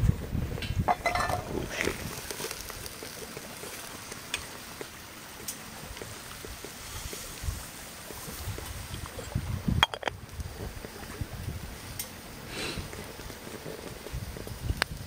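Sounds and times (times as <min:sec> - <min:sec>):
water boiling in kettle: 0:00.0 - 0:15.0.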